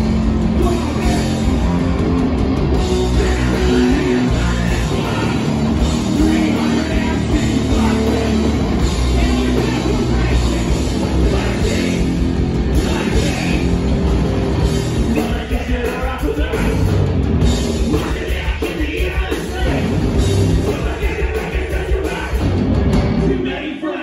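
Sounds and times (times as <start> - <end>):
punk band playing live: 0.0 - 23.9.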